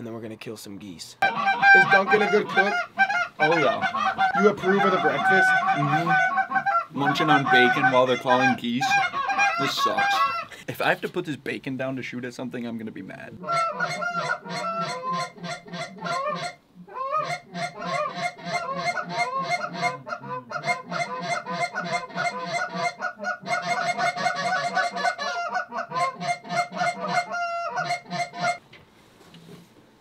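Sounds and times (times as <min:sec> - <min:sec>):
goose calls clucking and honking: 0:01.2 - 0:10.6, 0:13.4 - 0:28.6.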